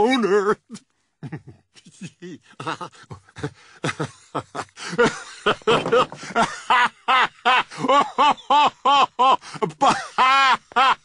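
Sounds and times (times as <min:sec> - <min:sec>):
man giggling and laughing: 0:00.6 - 0:11.0.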